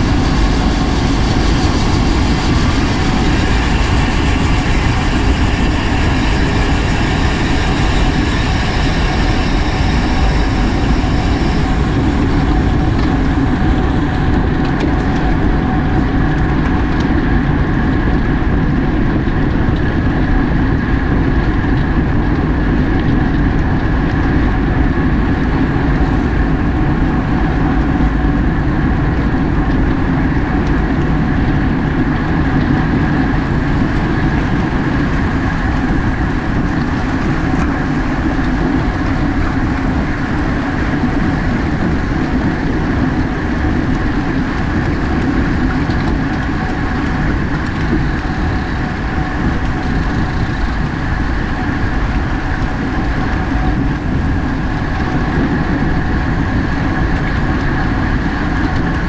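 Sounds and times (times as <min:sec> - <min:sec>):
bike tyres humming on pavement: 0:00.0 - 0:59.0
wind rush: 0:00.0 - 0:59.0.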